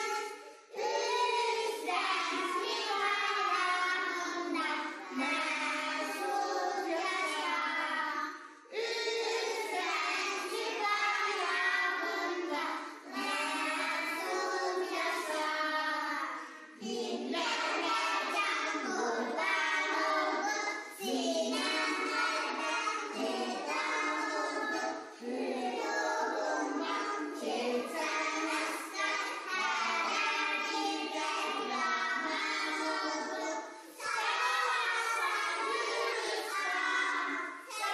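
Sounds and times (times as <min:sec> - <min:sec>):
children singing: 0:00.0 - 0:37.9.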